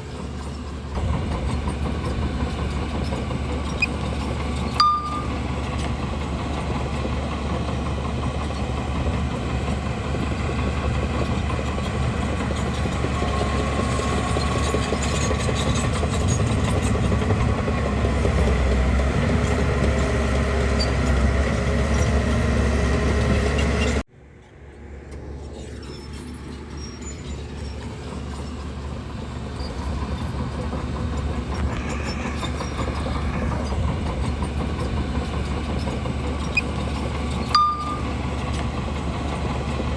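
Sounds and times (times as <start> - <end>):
bulldozer diesel engine running: 0.0 - 24.1, 26.0 - 39.9.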